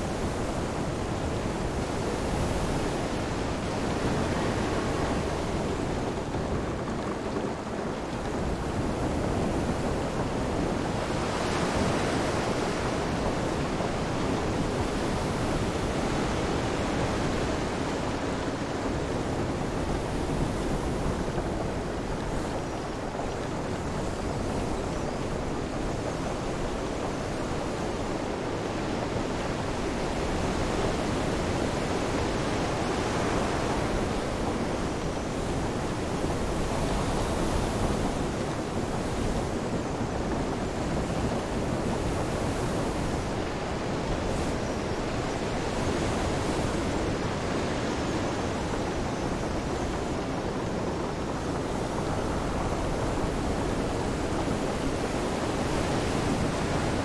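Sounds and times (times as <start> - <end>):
rain: 0.0 - 55.7
wind: 0.0 - 57.0.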